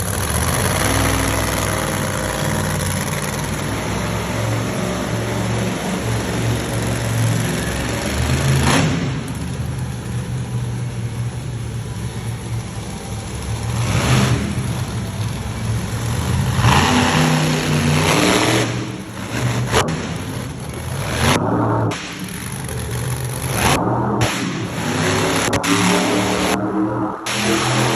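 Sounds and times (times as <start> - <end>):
monster truck engines revving: 0.0 - 27.9.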